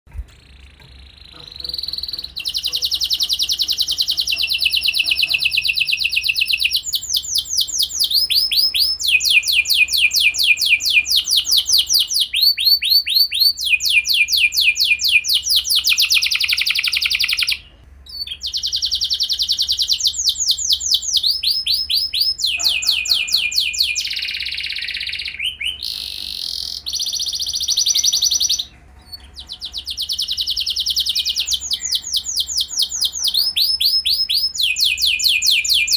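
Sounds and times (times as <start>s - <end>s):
canary singing rapid trills: 0.4s - 35.9s.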